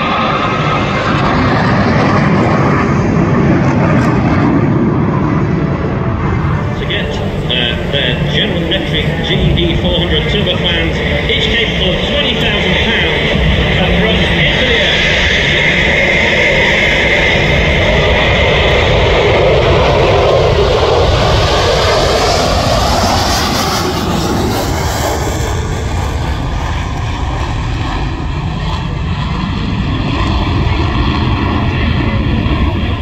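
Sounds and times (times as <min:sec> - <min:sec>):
jet roar taking off: 0:00.0 - 0:33.0.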